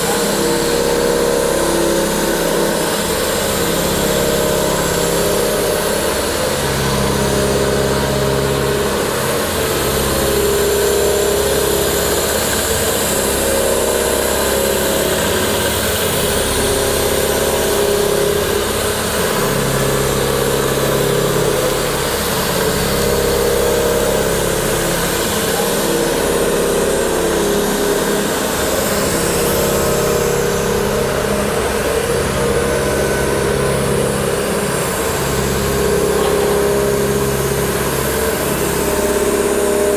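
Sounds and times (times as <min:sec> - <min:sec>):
boring mill machine hum: 0:00.0 - 0:39.9.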